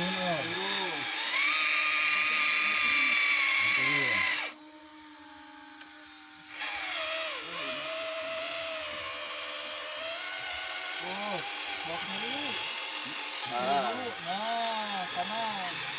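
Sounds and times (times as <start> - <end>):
small electric motor whining: 0.0 - 15.9.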